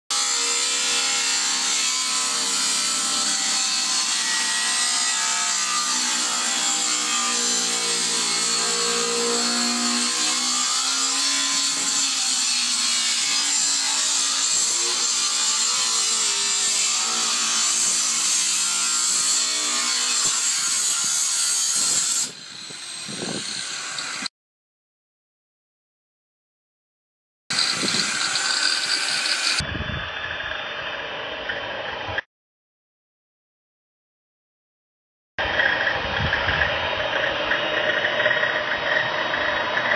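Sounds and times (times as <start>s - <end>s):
power tool cutting: 0.1s - 24.3s, 27.5s - 32.2s, 35.4s - 39.9s.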